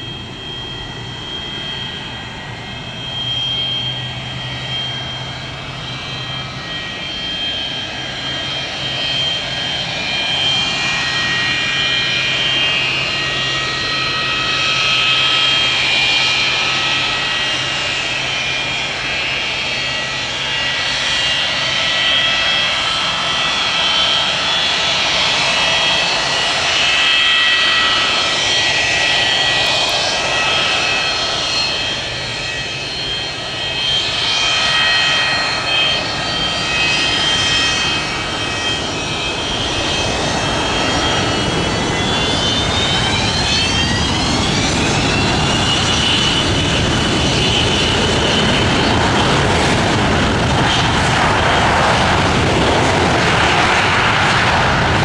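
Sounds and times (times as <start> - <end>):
jet engines whining and roaring: 0.0 - 55.0.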